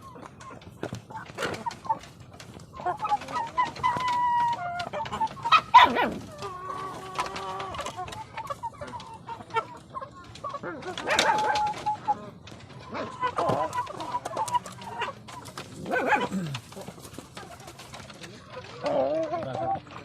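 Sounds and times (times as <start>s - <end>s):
chickens clucking and squawking: 0.0s - 20.0s.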